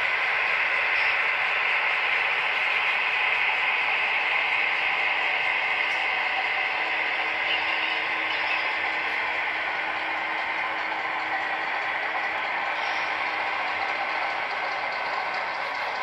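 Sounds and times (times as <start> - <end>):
model train wheels rattling on rails: 0.0 - 16.0.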